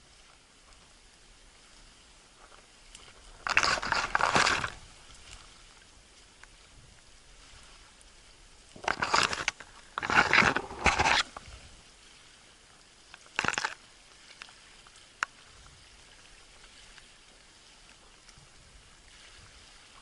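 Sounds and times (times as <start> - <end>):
leaves and twigs rustling: 0.0 - 20.0.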